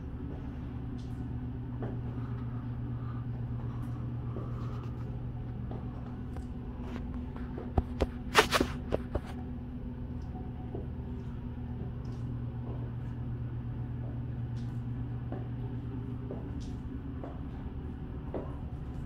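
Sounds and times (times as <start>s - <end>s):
low hum of room tone: 0.0s - 19.0s.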